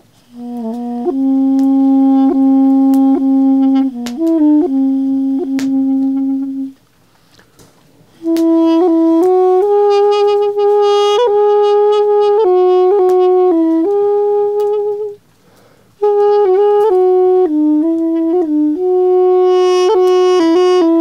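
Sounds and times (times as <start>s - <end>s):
double-reed woodwind melody: 0.0s - 7.0s, 8.1s - 21.0s.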